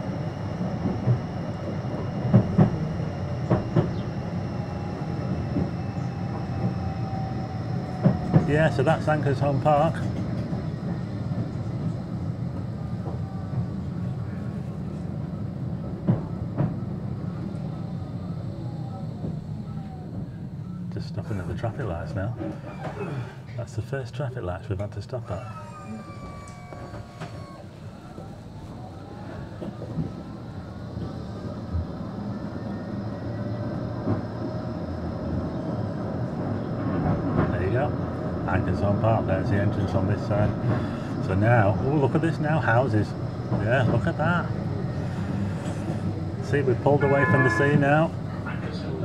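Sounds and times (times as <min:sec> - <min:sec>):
faint falling whine: 0:00.0 - 0:23.8, 0:24.9 - 0:49.0
tram rumbling on rails: 0:00.0 - 0:49.0.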